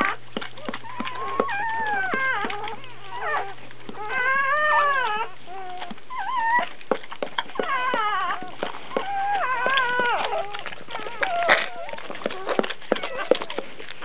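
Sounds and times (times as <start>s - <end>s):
puppy crying in squeals: 0.0s - 6.8s, 7.5s - 13.6s.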